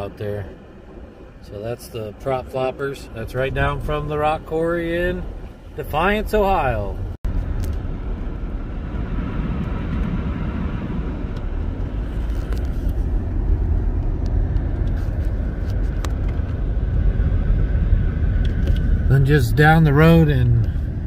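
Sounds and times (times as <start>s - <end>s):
car tyres and engine rumble: 0.0s - 21.0s.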